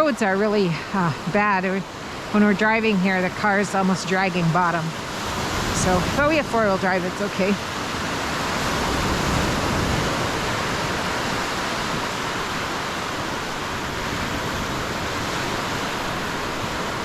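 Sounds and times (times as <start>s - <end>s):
waves washing on beach: 0.0s - 17.0s.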